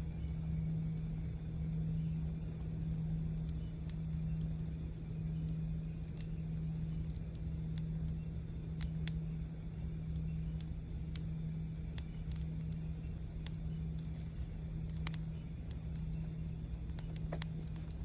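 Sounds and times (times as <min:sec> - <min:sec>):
campfire crackling and popping: 0:00.0 - 0:18.0
steady low drone: 0:00.0 - 0:18.0.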